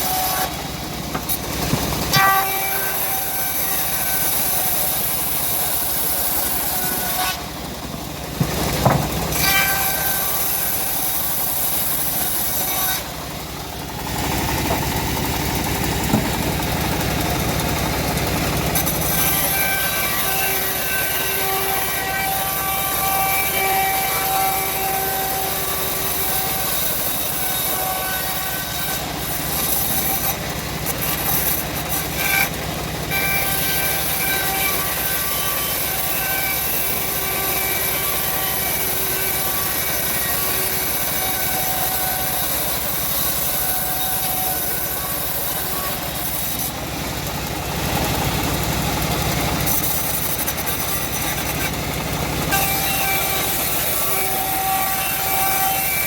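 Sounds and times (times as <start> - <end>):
bandsaw mill cutting log: 0.0 - 56.0.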